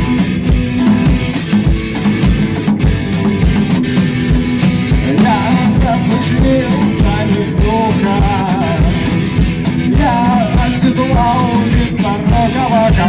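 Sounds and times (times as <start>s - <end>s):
bass guitar: 0.0s - 13.0s
drums and cymbals: 0.0s - 13.0s
wavering lead guitar melody: 0.0s - 13.0s.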